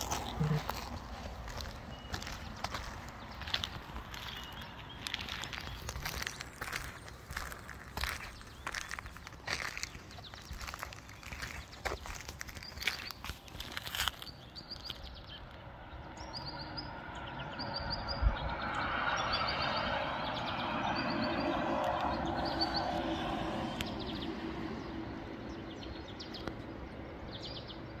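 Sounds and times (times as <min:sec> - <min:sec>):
songbird chirping trills: 0:00.0 - 0:28.0.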